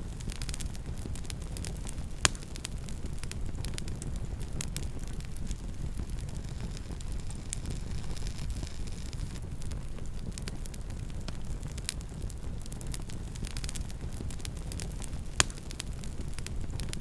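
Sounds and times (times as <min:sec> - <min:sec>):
burning wood rumble: 0:00.0 - 0:17.0
fire pops and snaps: 0:00.0 - 0:17.0.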